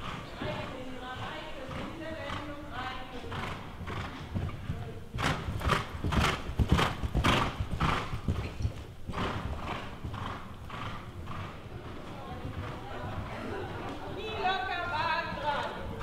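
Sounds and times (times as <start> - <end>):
horse hoofbeats on sand: 0.0 - 13.3.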